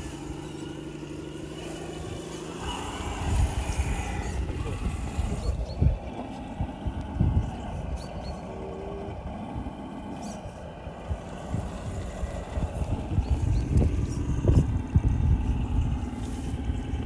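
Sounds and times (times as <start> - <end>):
electric motor and gears whining: 0.0 - 17.0
low rumble: 0.0 - 17.0.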